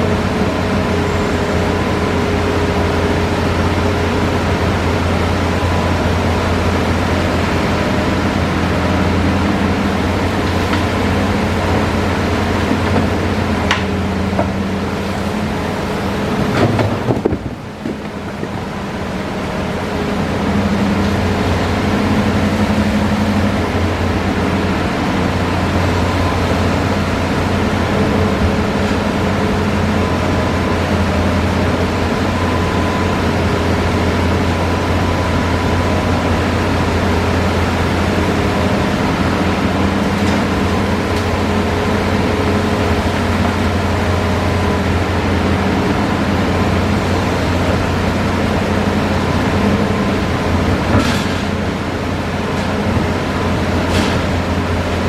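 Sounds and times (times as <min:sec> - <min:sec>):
excavator diesel engine droning: 0:00.0 - 0:55.0.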